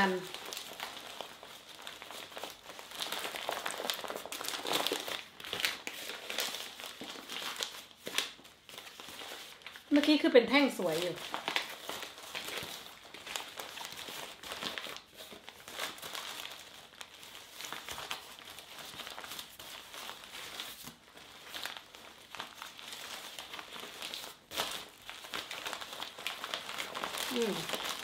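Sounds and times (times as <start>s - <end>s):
newspaper crinkling and rustling: 0.0s - 28.0s.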